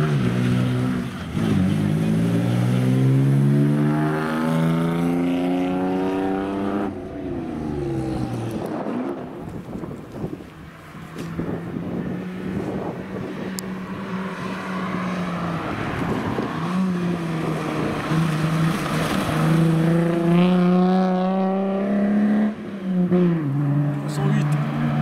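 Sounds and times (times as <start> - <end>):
rally car engine revving: 0.0 - 9.5, 11.4 - 25.0.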